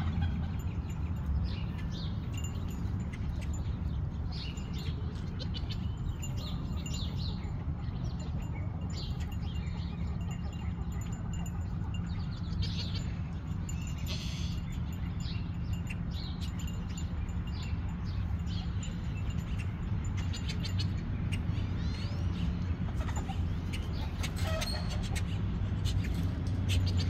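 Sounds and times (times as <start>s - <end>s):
chickens calling and chirping: 0.0s - 27.0s.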